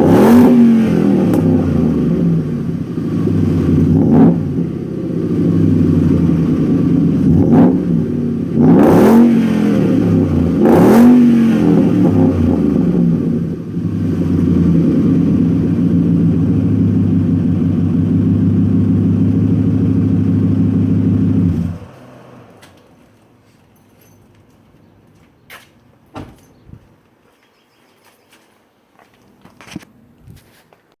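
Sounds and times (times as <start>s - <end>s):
truck engine idling and revving: 0.0s - 26.1s.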